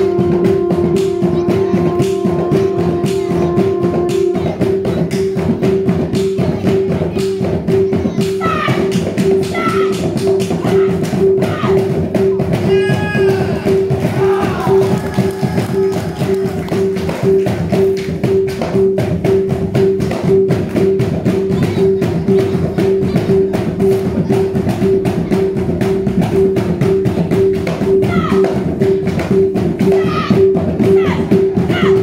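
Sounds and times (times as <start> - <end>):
fast dense drumming: 0.0 - 32.0.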